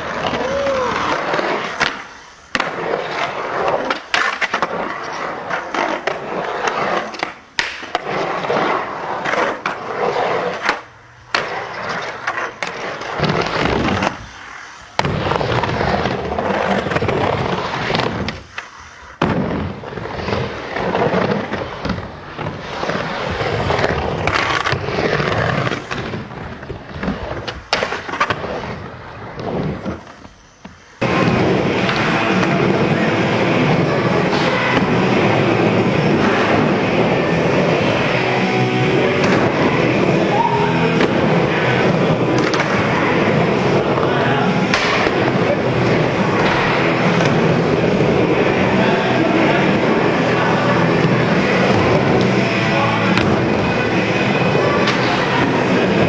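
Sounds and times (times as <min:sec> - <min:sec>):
skateboard wheels rolling on concrete: 0:00.0 - 0:56.0.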